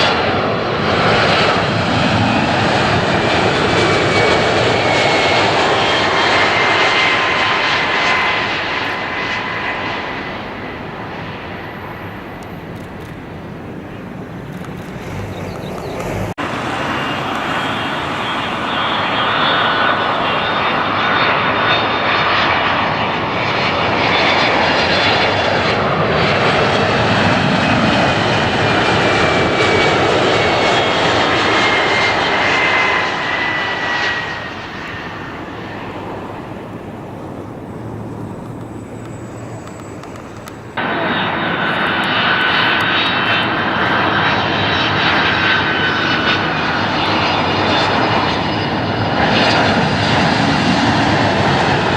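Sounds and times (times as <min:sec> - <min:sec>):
airliner engines passing: 0:00.0 - 0:51.9
high jet whine: 0:00.0 - 0:51.9.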